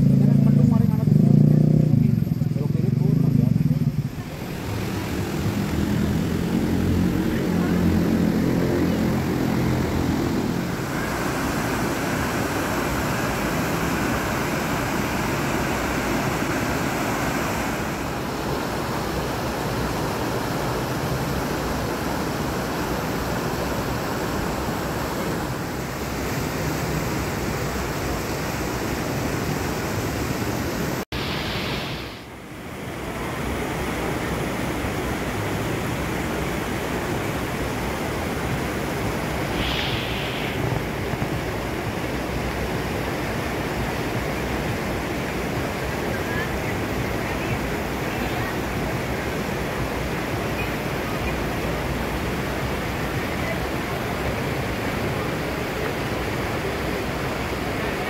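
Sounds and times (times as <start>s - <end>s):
river rushing: 4.0s - 58.0s
small waterfall over rocks: 4.2s - 58.0s.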